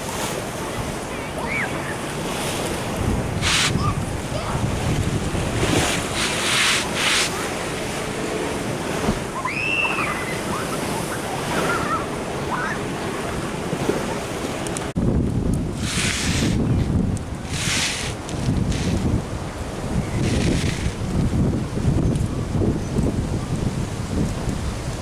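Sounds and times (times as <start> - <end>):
ocean surf washing in: 0.0 - 22.7
wind buffeting the microphone: 0.0 - 25.0.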